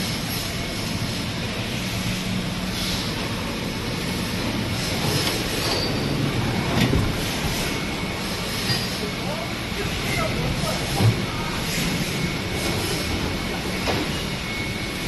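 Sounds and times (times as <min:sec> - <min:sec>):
machine mechanical drone: 0:00.0 - 0:15.0.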